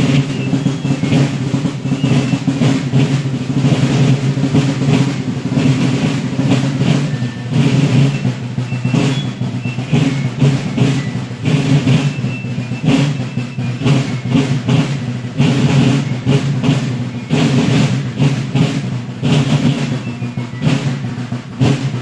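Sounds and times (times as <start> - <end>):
marching drums beating: 0.0 - 22.0.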